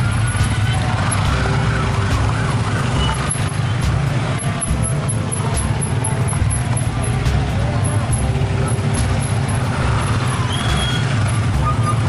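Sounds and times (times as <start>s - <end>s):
motorcycles idling: 0.0s - 12.0s.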